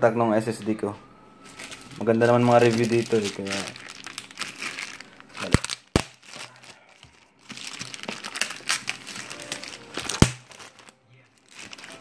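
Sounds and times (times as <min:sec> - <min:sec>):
plastic bag crinkling: 0:01.4 - 0:12.0.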